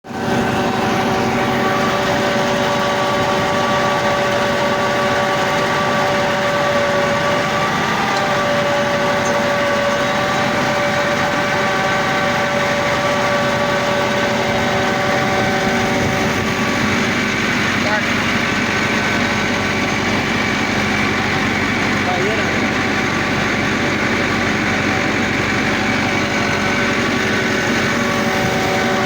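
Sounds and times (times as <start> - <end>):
steady whining tones: 0.0 - 29.0
tractor diesel engine running: 0.0 - 29.0.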